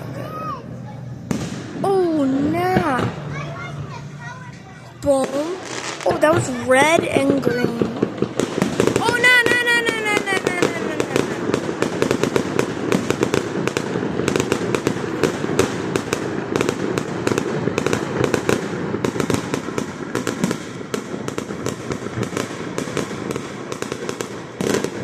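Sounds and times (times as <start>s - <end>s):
continuous rumble: 0.0s - 25.0s
fireworks popping and crackling: 1.2s - 25.0s.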